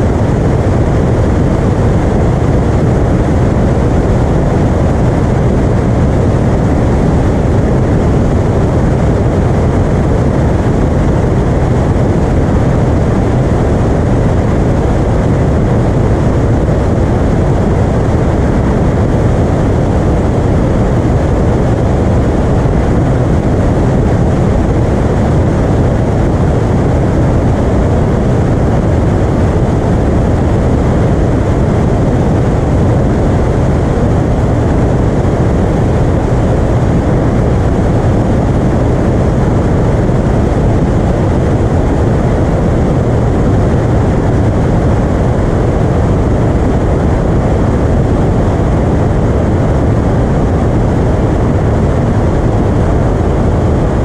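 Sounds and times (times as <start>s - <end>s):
airplane propeller engine drone: 0.0s - 54.0s.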